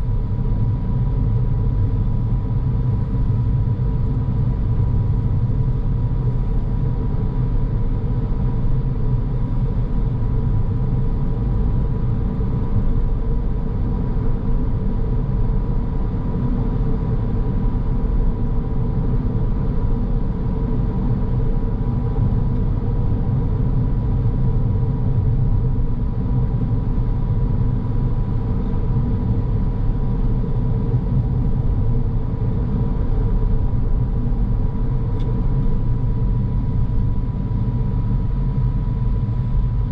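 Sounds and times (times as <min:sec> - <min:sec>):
car road and engine rumble: 0:00.0 - 0:39.9
faint steady whine: 0:00.0 - 0:39.9.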